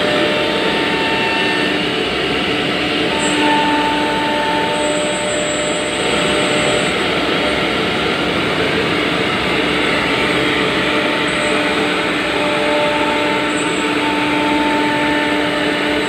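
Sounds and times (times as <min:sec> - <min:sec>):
router spindle whine: 0:00.0 - 0:16.0.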